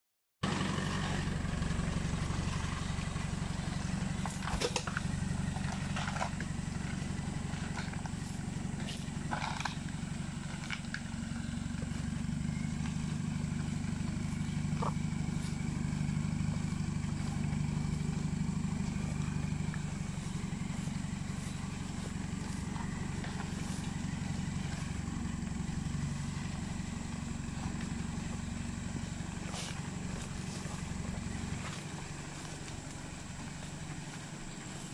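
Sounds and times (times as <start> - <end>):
pickup truck engine running: 0.4 - 34.9.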